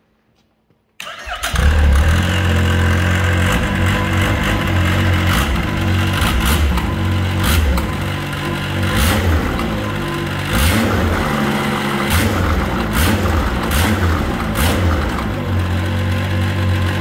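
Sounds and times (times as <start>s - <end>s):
snowmobile engine running: 1.6s - 17.0s.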